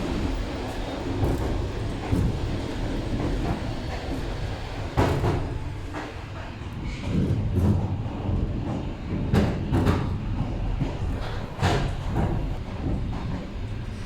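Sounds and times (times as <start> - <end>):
low rumble in train car: 0.0 - 14.0.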